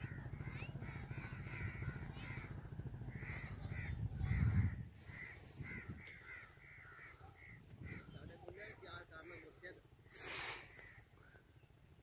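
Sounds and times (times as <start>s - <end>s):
crows cawing: 0.0s - 9.7s, 10.6s - 11.4s.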